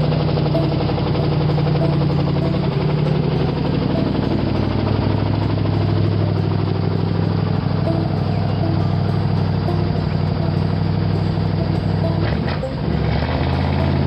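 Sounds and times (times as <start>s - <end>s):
car engine idling with knocking: 0.0s - 14.0s.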